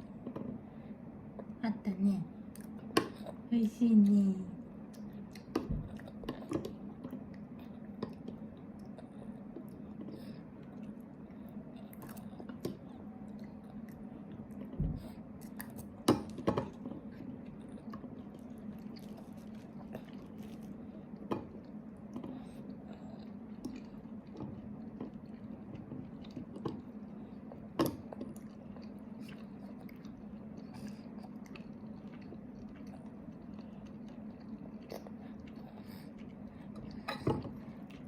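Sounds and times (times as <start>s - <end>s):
faint steady hum: 0.0s - 38.0s
toddler chewing food: 4.6s - 38.0s.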